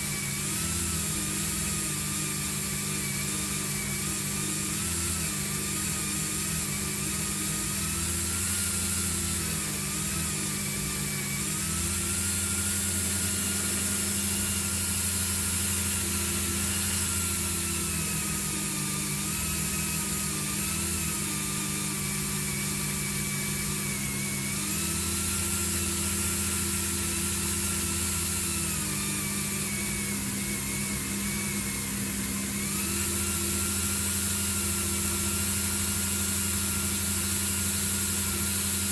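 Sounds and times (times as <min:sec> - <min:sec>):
motor hum: 0:00.0 - 0:38.9
rotary tool high whine: 0:00.0 - 0:38.9.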